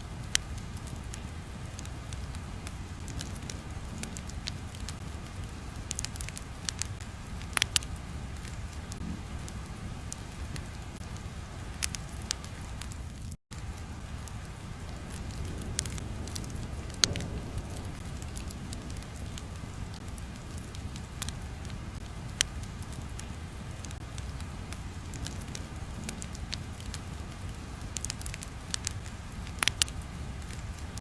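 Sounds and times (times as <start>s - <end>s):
fire crackles and pops: 0.0s - 31.0s
low fire rumble: 0.0s - 31.0s.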